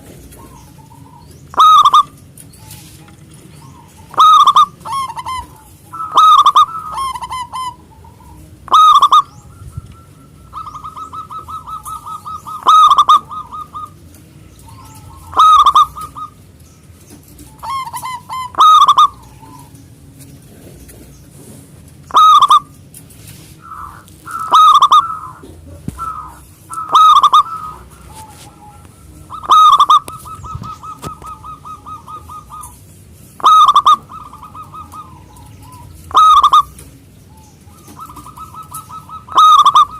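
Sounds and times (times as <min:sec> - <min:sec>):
dove cooing: 0:00.0 - 0:22.9, 0:23.6 - 0:39.9.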